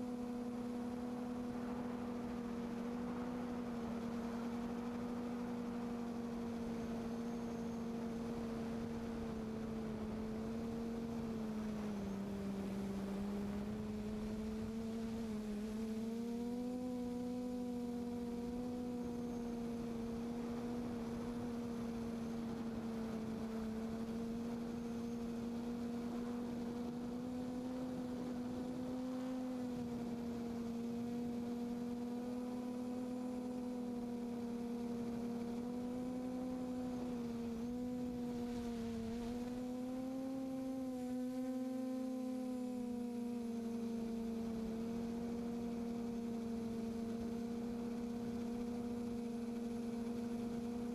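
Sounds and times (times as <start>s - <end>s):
drone motors and propellers humming: 0.0s - 50.9s.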